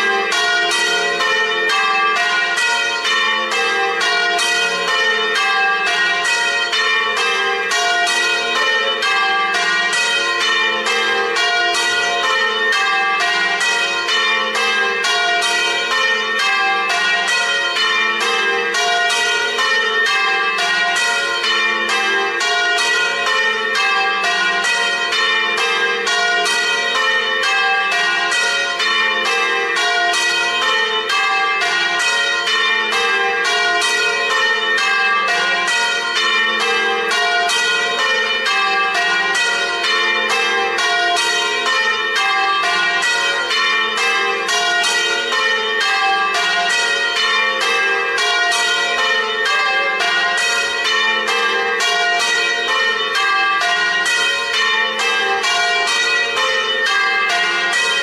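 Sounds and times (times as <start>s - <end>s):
church bells pealing: 0.0s - 58.0s.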